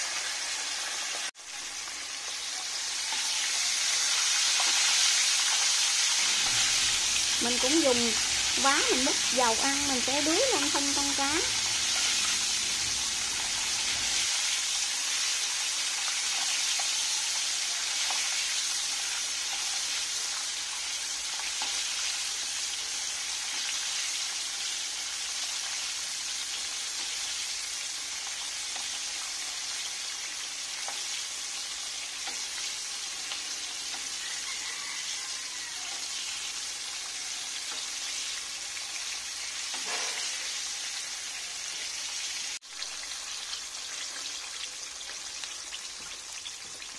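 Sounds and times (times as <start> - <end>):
fish deep-frying in oil: 0.0 - 46.9.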